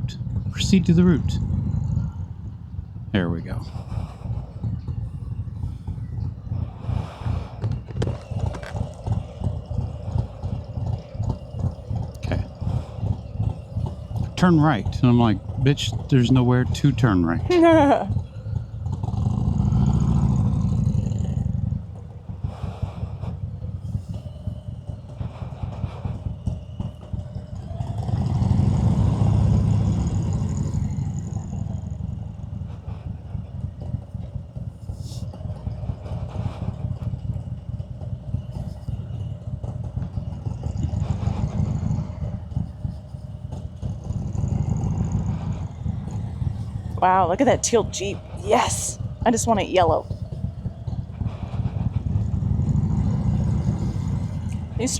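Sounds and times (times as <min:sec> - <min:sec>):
motorcycle engine rumbling: 0:00.0 - 0:54.9.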